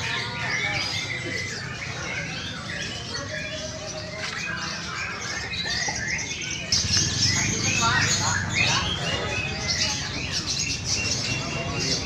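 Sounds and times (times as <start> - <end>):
songbirds whistling and chirping: 0.0 - 12.0.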